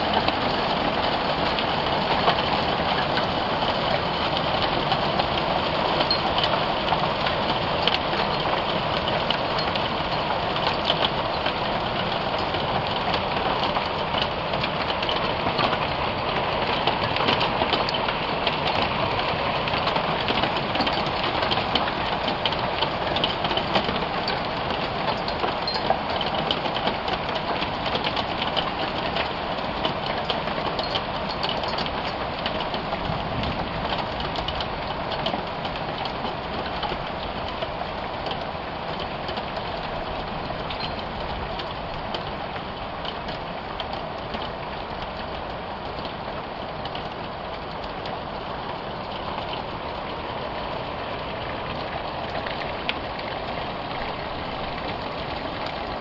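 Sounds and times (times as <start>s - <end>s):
hail and rain pattering: 0.0s - 56.0s.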